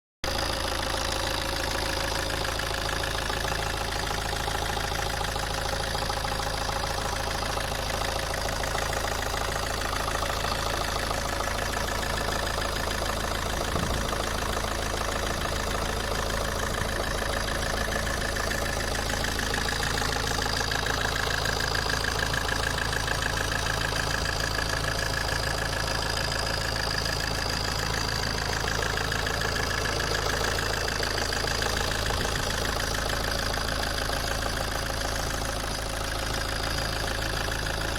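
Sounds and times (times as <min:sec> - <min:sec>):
diesel engine idling: 0:00.2 - 0:37.9.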